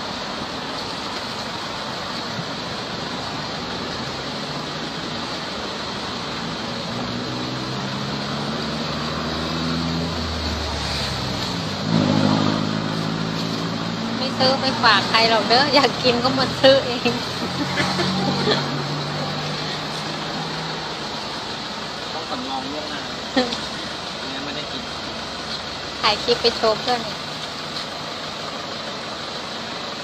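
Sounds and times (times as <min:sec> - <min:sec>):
road traffic noise: 0:00.0 - 0:30.0
vehicle engine passing: 0:01.8 - 0:30.0.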